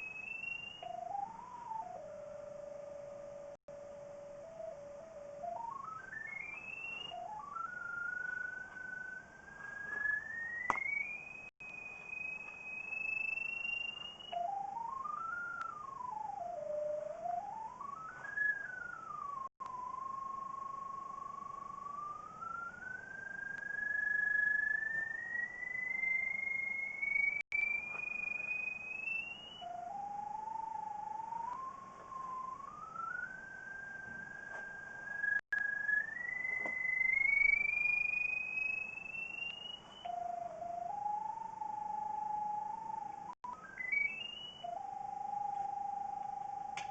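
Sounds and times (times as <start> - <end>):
sliding electronic tone: 0.0 - 46.9.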